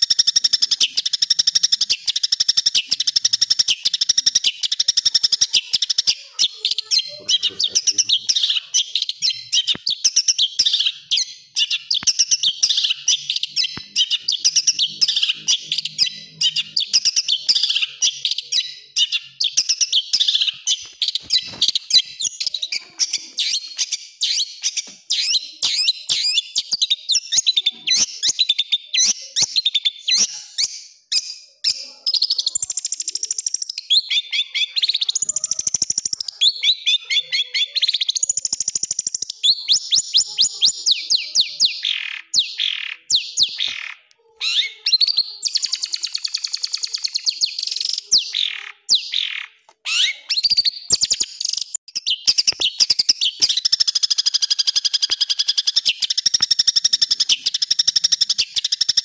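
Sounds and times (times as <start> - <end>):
bird singing varied song: 0.0 - 59.0.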